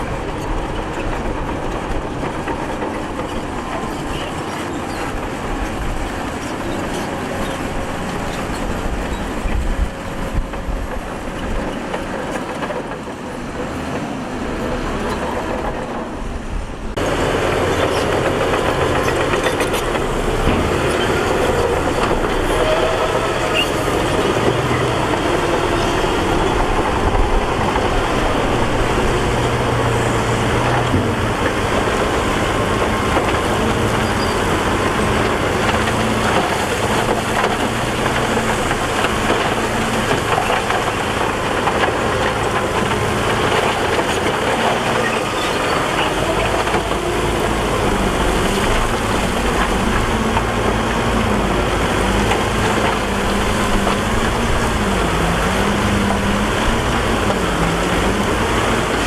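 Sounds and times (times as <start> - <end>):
diesel machine engine: 0.0 - 59.0.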